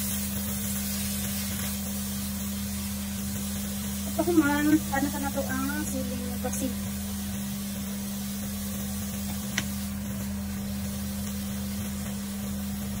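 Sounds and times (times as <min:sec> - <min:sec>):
food sizzling in frying pan: 0:00.0 - 0:13.0
low kitchen hum: 0:00.0 - 0:13.0.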